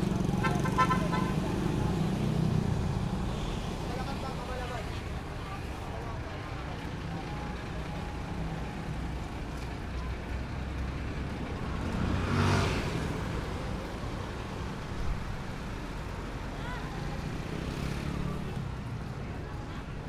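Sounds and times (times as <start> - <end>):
passing vehicle noise: 0.0 - 20.0
street traffic engine rumble: 0.0 - 20.0.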